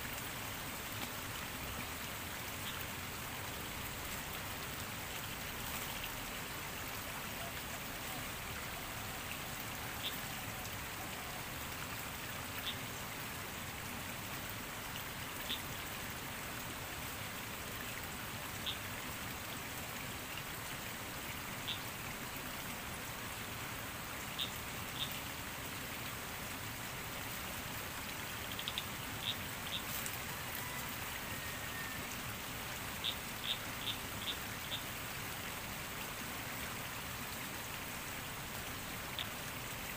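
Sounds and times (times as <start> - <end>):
fast-flowing stream: 0.0 - 39.9.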